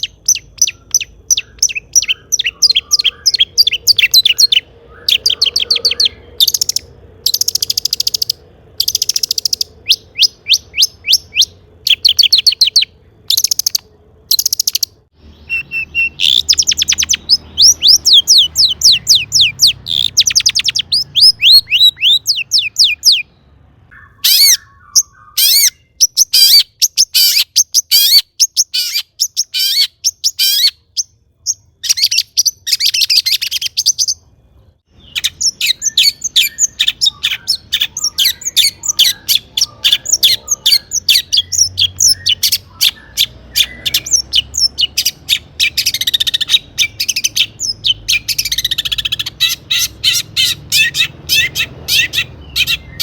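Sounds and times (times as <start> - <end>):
bird singing high rapid notes: 0.0 - 53.0.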